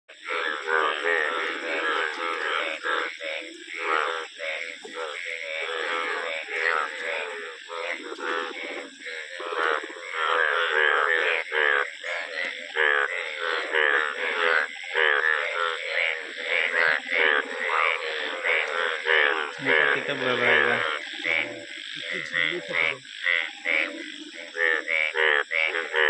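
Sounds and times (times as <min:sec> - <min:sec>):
frogs croaking: 0:00.1 - 0:26.0.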